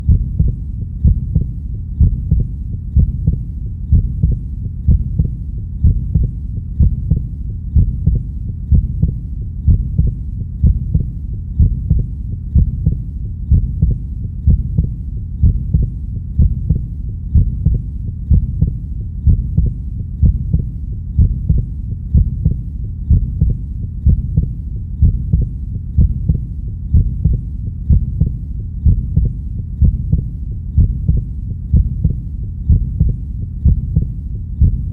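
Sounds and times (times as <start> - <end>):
constant low hum: 0.0 - 34.9
deep heartbeat: 0.0 - 34.9.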